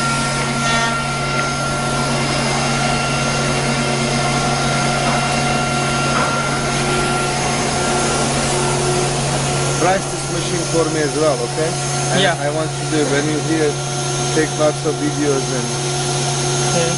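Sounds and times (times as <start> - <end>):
cnc router machine drone: 0.0 - 16.9
high machine whine: 0.0 - 16.9.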